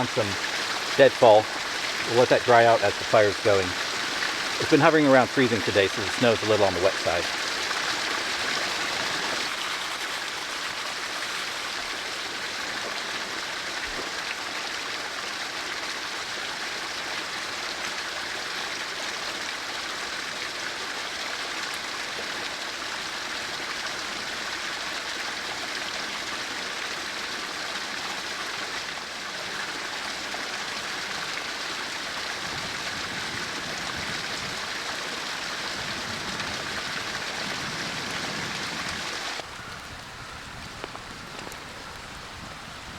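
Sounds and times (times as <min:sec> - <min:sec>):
creek flowing water: 0:00.0 - 0:42.9.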